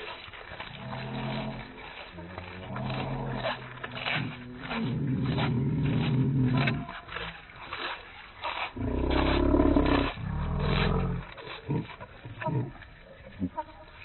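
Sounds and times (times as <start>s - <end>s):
slowed crunching and pecking clicks: 0.0s - 14.0s.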